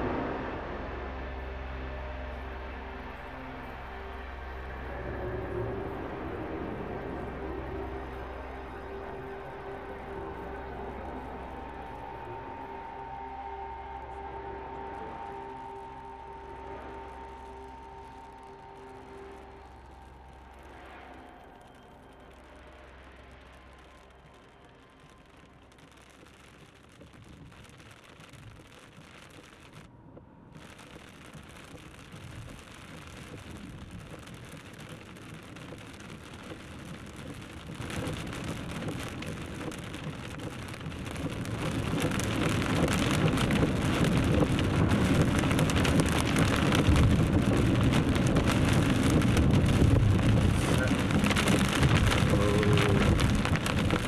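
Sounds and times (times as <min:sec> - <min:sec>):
heavy rain and tyre spray: 0:00.0 - 0:54.0.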